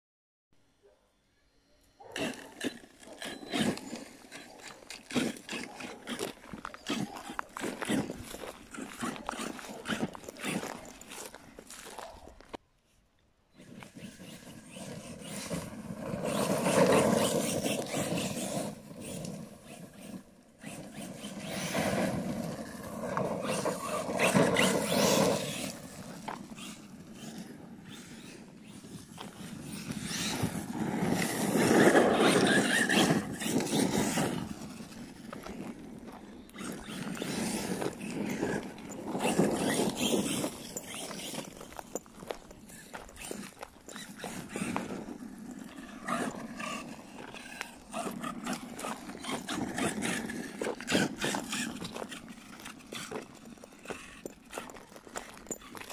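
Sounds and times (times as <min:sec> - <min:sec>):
rc truck driving on gravel: 0:01.6 - 0:12.6, 0:13.5 - 0:55.9.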